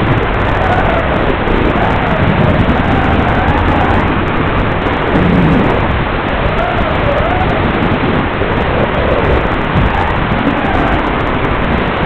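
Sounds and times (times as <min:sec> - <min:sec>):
motor whine: 0:00.0 - 0:12.0
quadcopter propellers rushing: 0:00.0 - 0:12.0.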